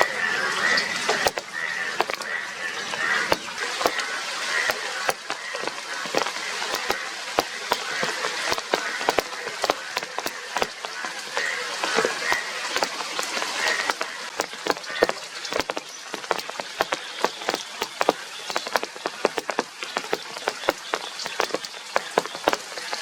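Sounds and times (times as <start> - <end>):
faint frogs calling: 0.0 - 23.0
rain on a hard surface: 0.0 - 23.0.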